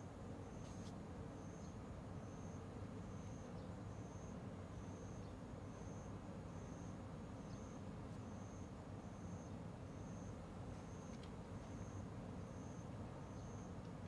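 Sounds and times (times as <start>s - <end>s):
insect chirping: 0.4s - 13.8s.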